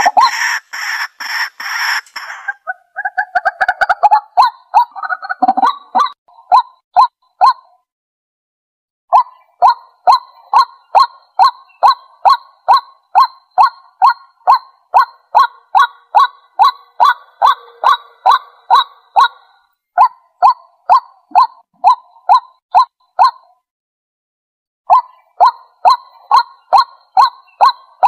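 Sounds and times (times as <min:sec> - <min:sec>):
bird giving rapid repeated calls: 0:00.0 - 0:07.7, 0:09.1 - 0:23.4, 0:24.9 - 0:28.0.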